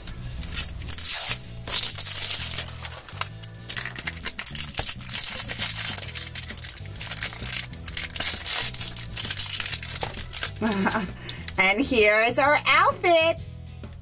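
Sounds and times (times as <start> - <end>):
background music: 0.0 - 14.0
plastic wrapping crinkling and tearing: 0.2 - 11.5.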